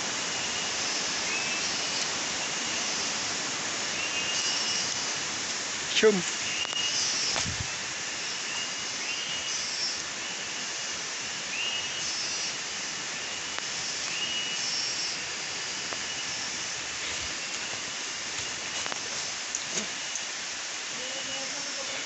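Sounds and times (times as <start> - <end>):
forest ambience hiss: 0.0 - 22.0.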